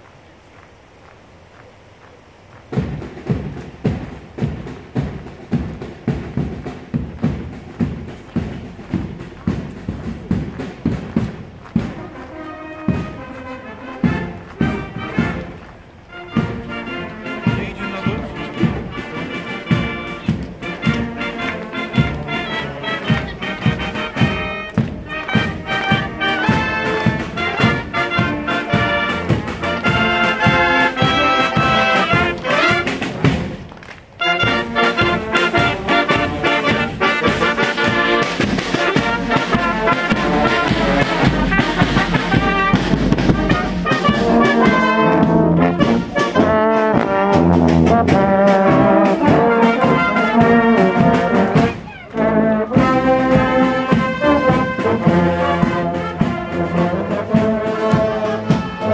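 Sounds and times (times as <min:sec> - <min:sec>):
bass drum beat: 0:02.7 - 0:12.2, 0:14.0 - 0:33.7, 0:34.4 - 0:58.9
brass band playing: 0:02.8 - 0:58.9.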